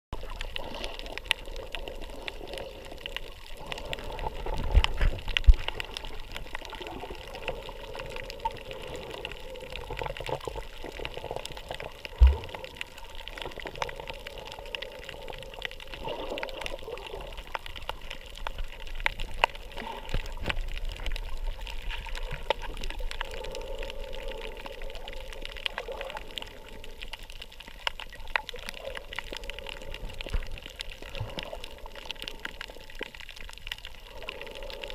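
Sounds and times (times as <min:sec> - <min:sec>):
muffled underwater wash: 0:00.1 - 0:34.9.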